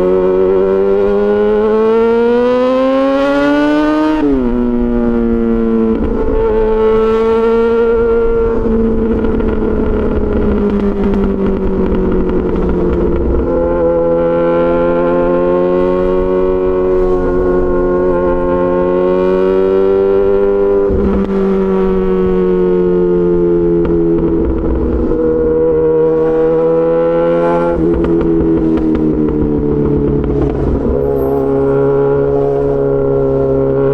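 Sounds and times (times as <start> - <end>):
motorcycle engine cruising: 0.0 - 33.9.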